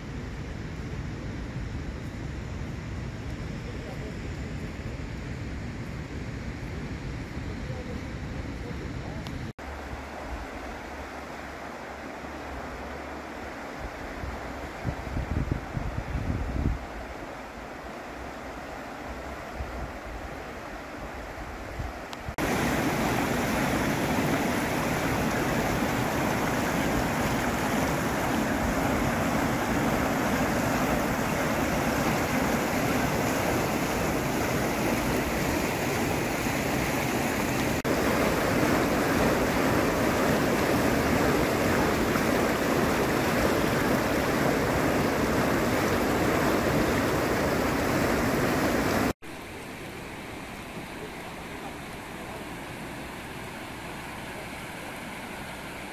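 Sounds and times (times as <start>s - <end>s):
water rushing over weir: 9.3s - 55.9s.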